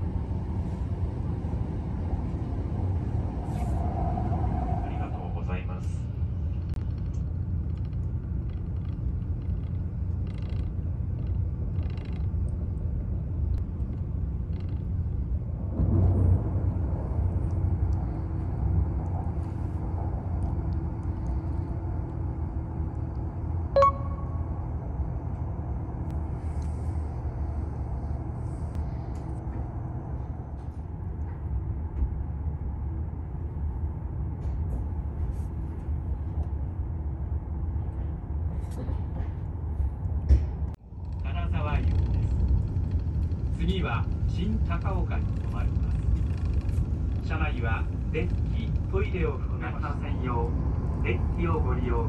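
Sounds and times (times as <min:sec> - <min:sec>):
train rumble inside passenger car: 0:00.0 - 0:52.0.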